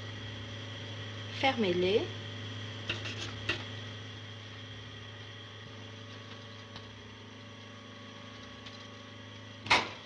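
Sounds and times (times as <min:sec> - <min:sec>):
chart recorder mechanical hum: 0:00.0 - 0:10.0.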